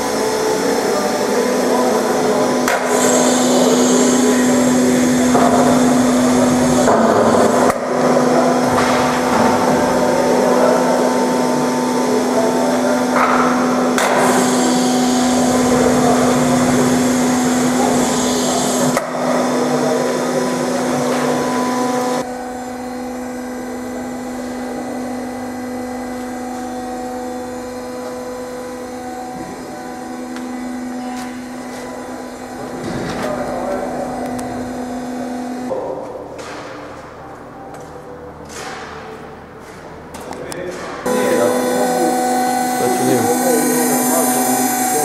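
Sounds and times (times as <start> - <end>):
machine hum: 0.0 - 45.0.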